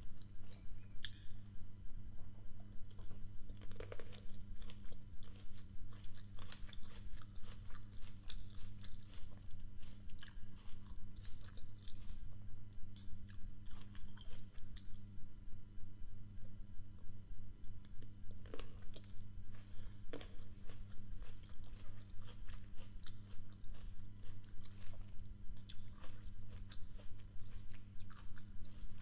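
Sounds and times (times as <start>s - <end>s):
steady low hum: 0.0s - 29.0s
chewing grapes crunches: 0.1s - 1.4s, 2.6s - 15.0s, 17.8s - 29.0s.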